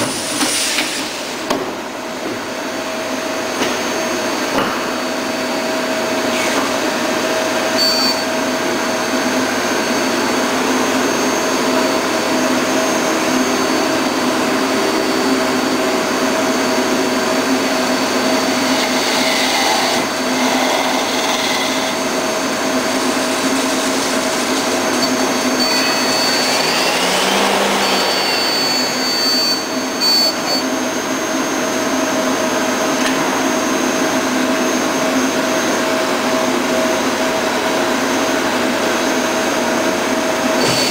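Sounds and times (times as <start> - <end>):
machine hum with high whine: 0.0 - 40.9.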